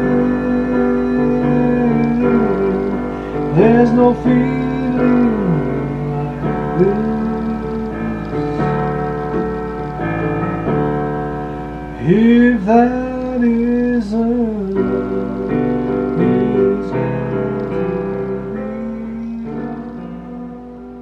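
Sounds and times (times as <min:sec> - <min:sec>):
person singing: 0:00.0 - 0:09.6, 0:12.0 - 0:21.0
electronic keyboard chords: 0:00.0 - 0:21.0.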